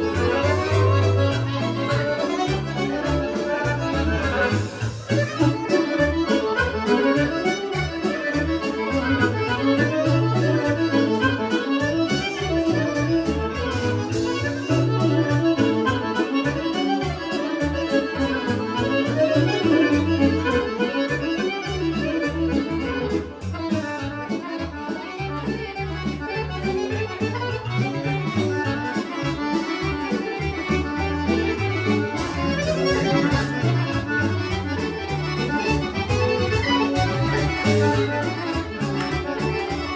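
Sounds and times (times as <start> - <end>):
accordion-led folk dance band: 0.0 - 39.9
bass line: 0.0 - 39.9
violin playing: 0.0 - 39.9.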